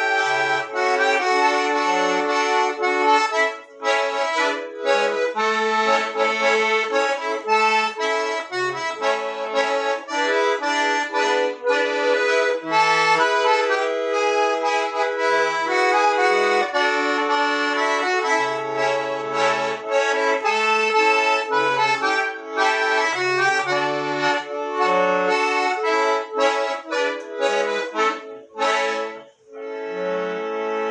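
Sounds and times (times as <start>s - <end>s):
accordion melody: 0.0s - 30.9s.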